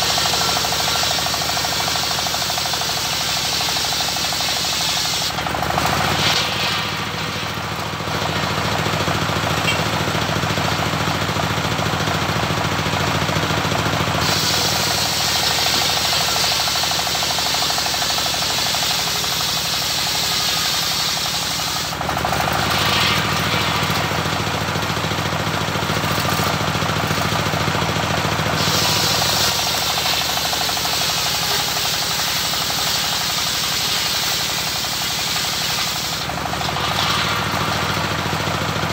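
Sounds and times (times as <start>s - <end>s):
sawmill blade cutting log: 0.0s - 38.9s.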